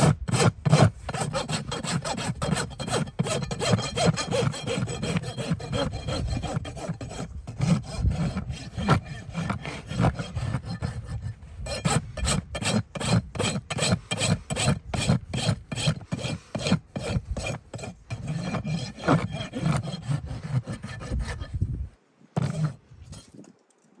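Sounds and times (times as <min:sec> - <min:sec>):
rasp filing a hoof: 0:00.0 - 0:21.8, 0:22.4 - 0:23.3.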